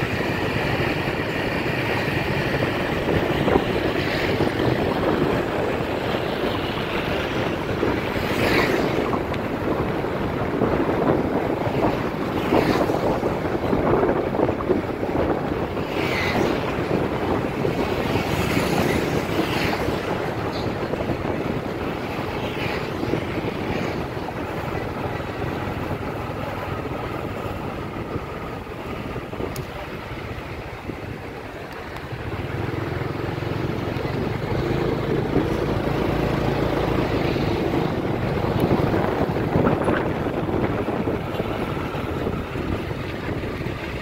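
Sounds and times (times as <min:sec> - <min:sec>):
motorbike road noise: 0:00.0 - 0:44.0
traffic: 0:00.0 - 0:44.0
wind buffeting microphone: 0:00.0 - 0:44.0.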